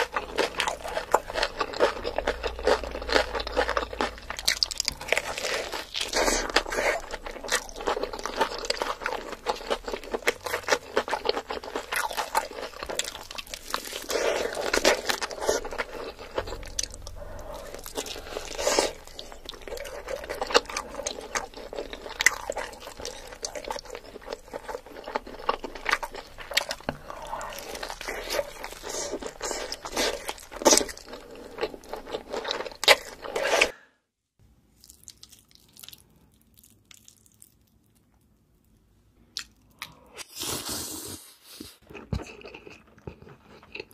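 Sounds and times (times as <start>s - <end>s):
person chewing crunchy food: 0.0s - 33.8s, 34.8s - 38.4s, 41.8s - 43.9s.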